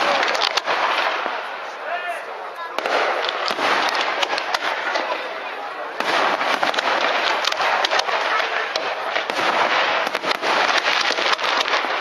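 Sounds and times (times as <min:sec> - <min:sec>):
fireworks sharp pops: 0:00.0 - 0:01.6, 0:02.7 - 0:12.0
fireworks crackling: 0:00.0 - 0:12.0.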